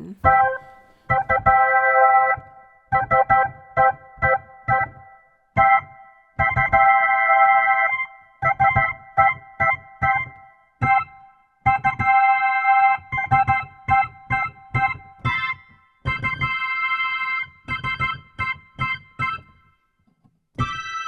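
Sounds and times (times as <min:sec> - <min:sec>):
electric keyboard chords: 0:00.0 - 0:19.8, 0:20.6 - 0:21.0.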